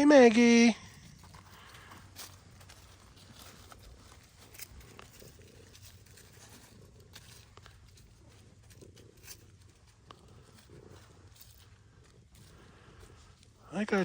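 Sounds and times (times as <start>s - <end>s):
faint clicks and rustles: 0.8s - 14.0s.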